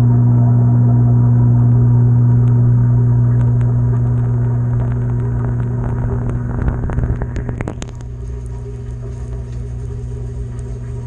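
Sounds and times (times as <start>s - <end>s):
washing machine drum spinning: 0.0s - 11.0s.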